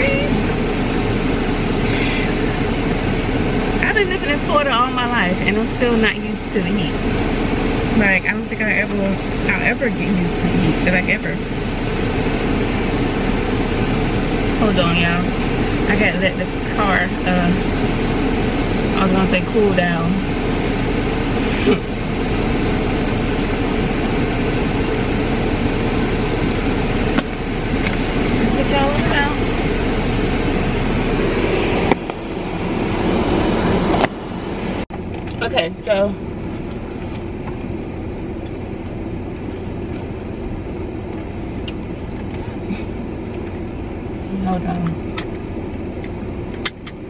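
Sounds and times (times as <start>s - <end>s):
car air conditioning rushing: 0.0s - 47.0s
low engine rumble: 0.0s - 47.0s.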